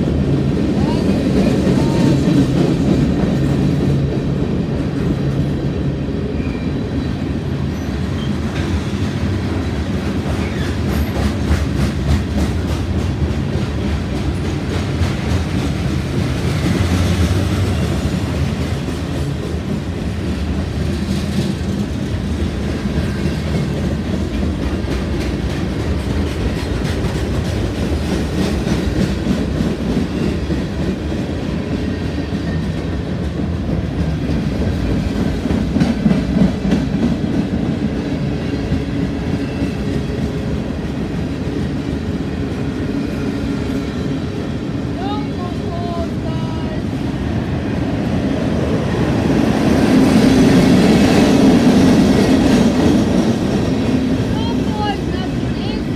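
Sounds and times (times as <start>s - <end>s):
clickety-clack over rail joints: 0.0s - 55.9s
train wheels rumbling on rails: 0.0s - 55.9s.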